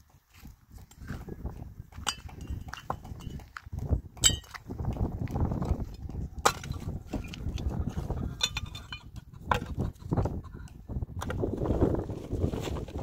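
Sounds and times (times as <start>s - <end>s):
rocks and concrete block clacking: 0.0s - 13.0s.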